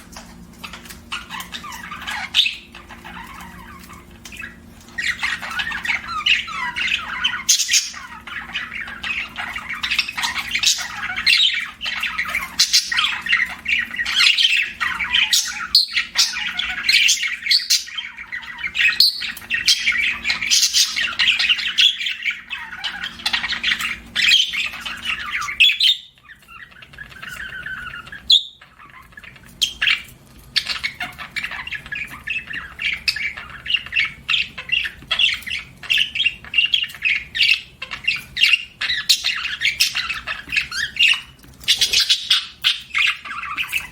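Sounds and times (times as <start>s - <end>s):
budgerigar chirping: 0.6s - 43.9s.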